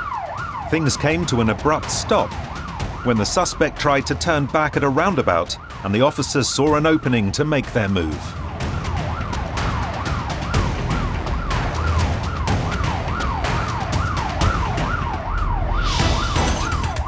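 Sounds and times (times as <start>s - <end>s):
police siren yelping: 0.0s - 17.0s.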